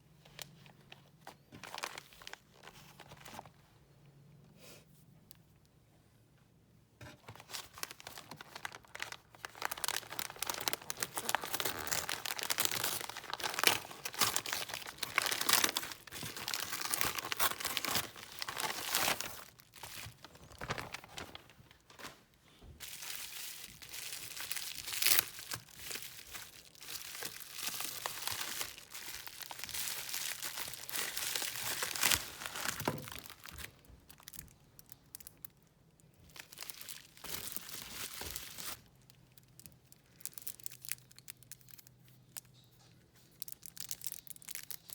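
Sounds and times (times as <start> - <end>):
packaging crinkling: 0.2 - 3.6, 7.2 - 35.6, 36.2 - 42.5, 43.3 - 44.9.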